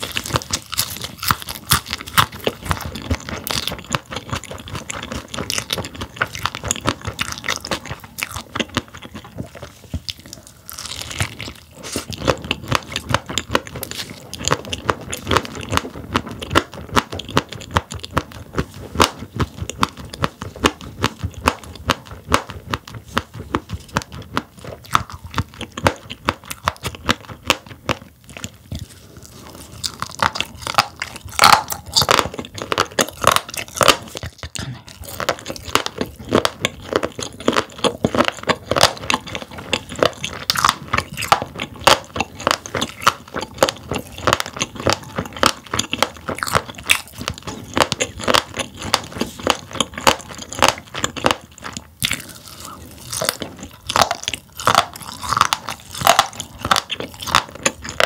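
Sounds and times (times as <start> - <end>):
chewing crunchy fish eggs: 0.0 - 58.0.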